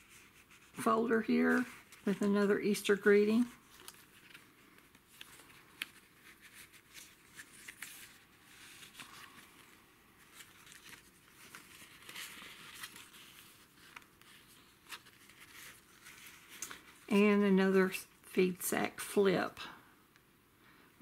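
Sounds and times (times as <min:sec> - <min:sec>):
paper pages rustling: 0:00.0 - 0:17.1.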